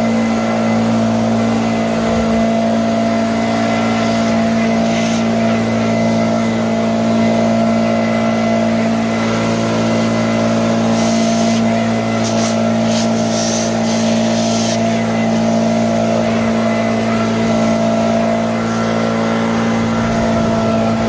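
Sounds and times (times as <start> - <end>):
small gas engine running: 0.0 - 21.0.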